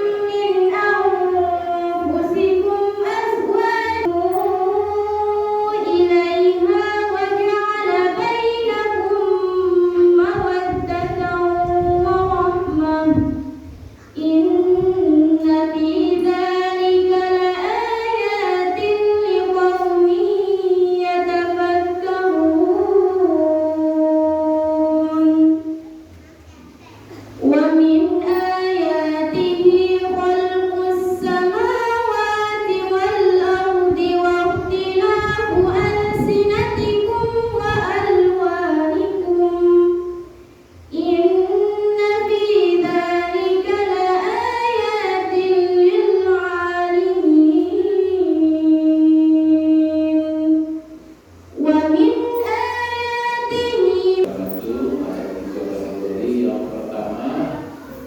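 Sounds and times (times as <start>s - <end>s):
woman chanting recitation: 0.0s - 26.1s, 27.3s - 55.9s.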